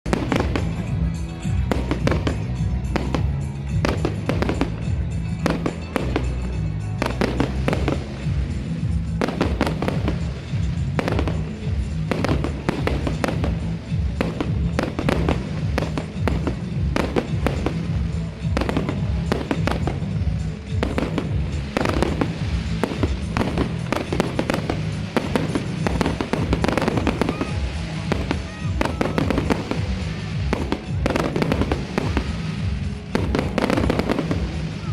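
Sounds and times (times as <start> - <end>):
fireworks bangs and crackles: 0.0 - 34.9
music playing: 0.0 - 34.9.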